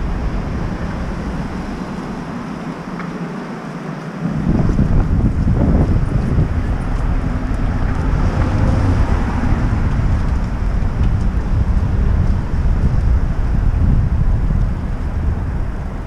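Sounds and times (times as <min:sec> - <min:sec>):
city street traffic: 0:00.0 - 0:16.0
wind buffeting microphone: 0:00.0 - 0:16.0.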